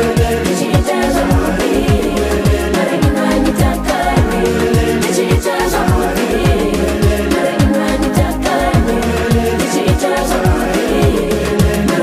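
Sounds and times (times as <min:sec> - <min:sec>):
deep kick drum: 0:00.0 - 0:11.9
person singing: 0:00.0 - 0:12.0
up-tempo pop song: 0:00.0 - 0:12.0.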